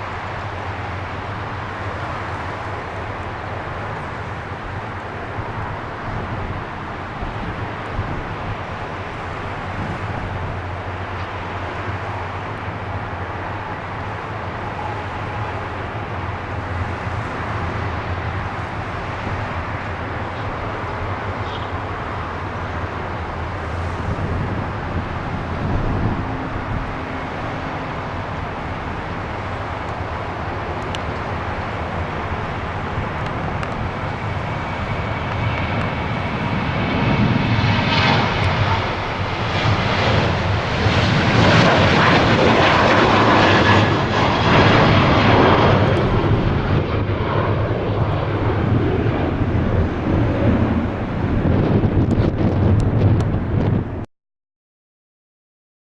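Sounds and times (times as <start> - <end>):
jet engine rumble: 0.0 - 54.1
jet engine whine: 0.0 - 54.1.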